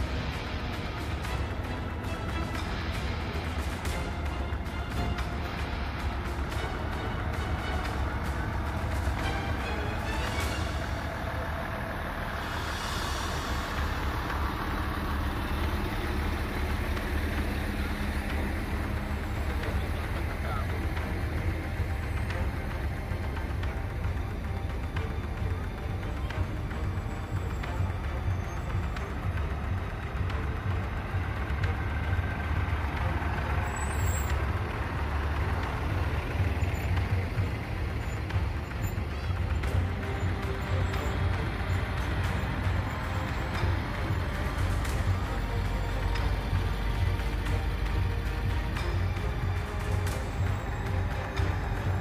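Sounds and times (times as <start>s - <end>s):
truck diesel engine idling: 0.0s - 52.0s.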